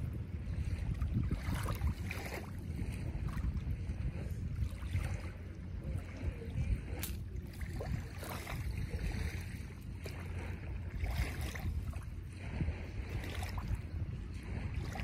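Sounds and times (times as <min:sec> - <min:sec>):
faint water noise: 0:00.0 - 0:15.0
wind on microphone: 0:00.0 - 0:15.0.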